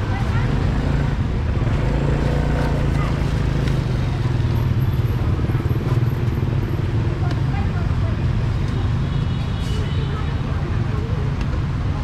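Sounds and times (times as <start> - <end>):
people talking: 0.0 - 1.2, 2.3 - 8.9, 9.6 - 12.0.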